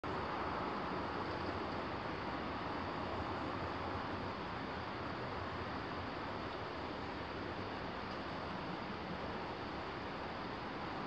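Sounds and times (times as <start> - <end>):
distant road traffic: 0.0 - 11.0
wind: 0.0 - 11.0.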